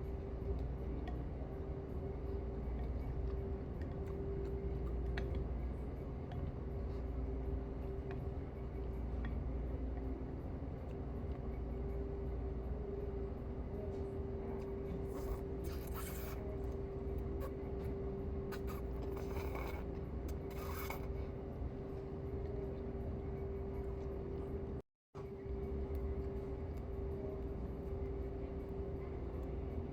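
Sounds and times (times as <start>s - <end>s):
room hum: 0.0s - 29.9s.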